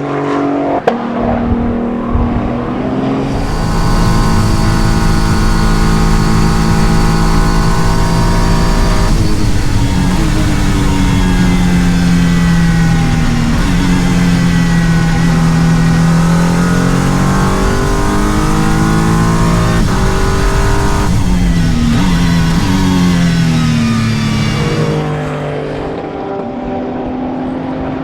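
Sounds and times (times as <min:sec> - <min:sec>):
racing car engines revving: 0:00.0 - 0:26.3.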